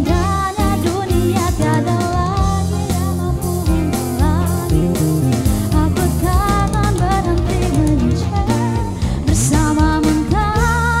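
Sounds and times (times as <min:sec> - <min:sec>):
drums: 0:00.0 - 0:11.0
guitar: 0:00.0 - 0:11.0
person singing: 0:00.0 - 0:11.0.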